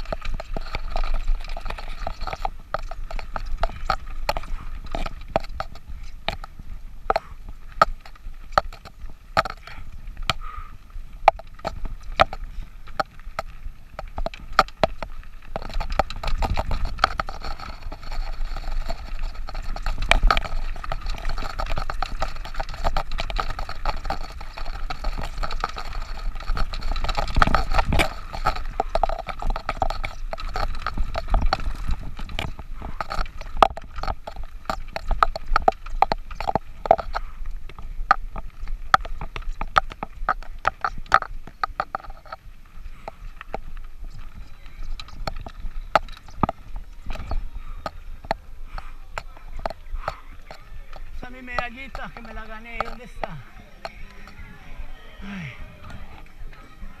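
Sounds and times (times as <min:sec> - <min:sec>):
mountain bike clicks and rattles: 0:00.0 - 0:57.0.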